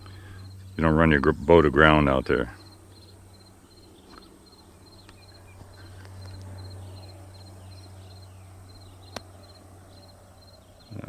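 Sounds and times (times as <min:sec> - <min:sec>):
insects chirping: 0:00.0 - 0:00.9, 0:01.9 - 0:11.0
low steady hum: 0:00.0 - 0:11.0.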